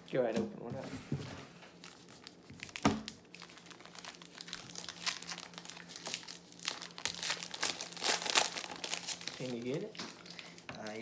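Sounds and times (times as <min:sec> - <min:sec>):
plastic wrappers crinkling and tearing: 0:01.7 - 0:11.0.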